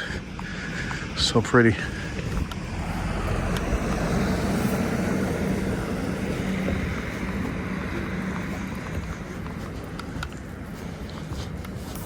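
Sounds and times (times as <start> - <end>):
vehicle passing: 0.8 - 10.7.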